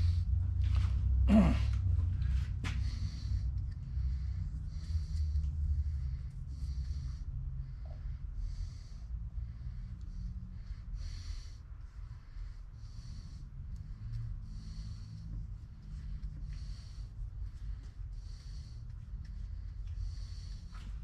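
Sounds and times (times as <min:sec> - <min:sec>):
person breathing: 0:00.0 - 0:21.0
steady low hum: 0:00.0 - 0:21.0.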